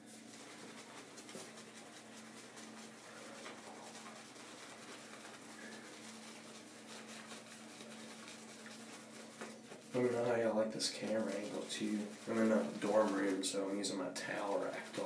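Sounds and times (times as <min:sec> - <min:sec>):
shaving brush whisking lather: 0:00.0 - 0:15.0.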